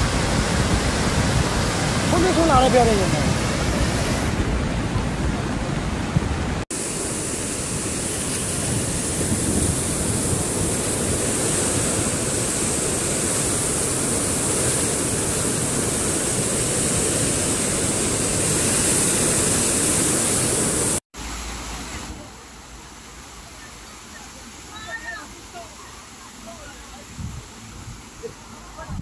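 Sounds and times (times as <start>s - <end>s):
flood torrent rushing: 0.0s - 29.0s
quieter rush of water: 0.0s - 29.0s.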